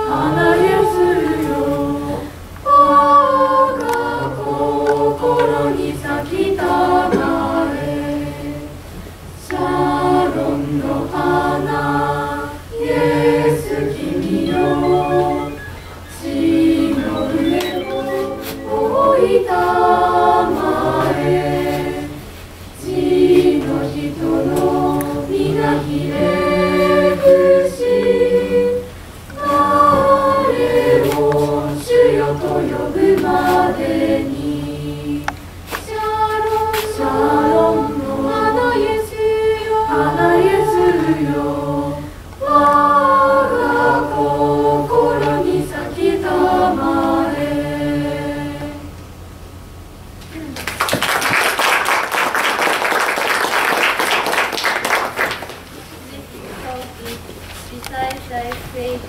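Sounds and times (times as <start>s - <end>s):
children's choir singing: 0.0s - 8.8s, 9.4s - 49.0s.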